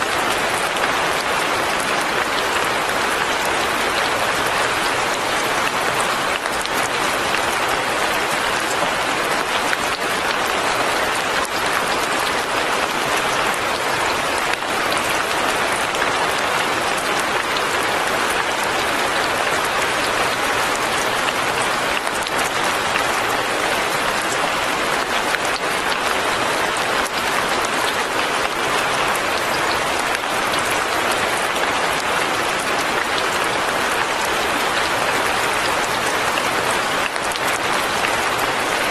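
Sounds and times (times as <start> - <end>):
light rain falling: 0.0 - 38.9.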